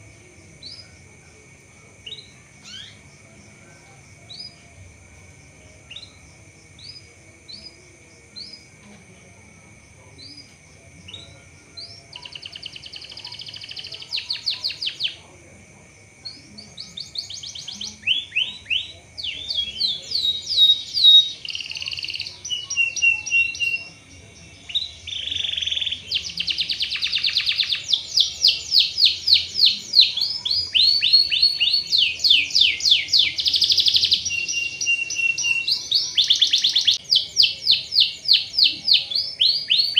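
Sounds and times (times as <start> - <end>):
canary singing: 1.9 - 8.9, 10.1 - 15.3, 16.2 - 39.9.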